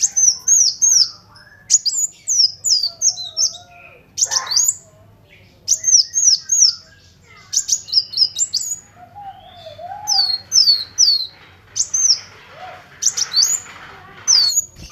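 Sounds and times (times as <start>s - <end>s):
sunbird chirping: 0.0s - 13.7s, 14.3s - 14.9s.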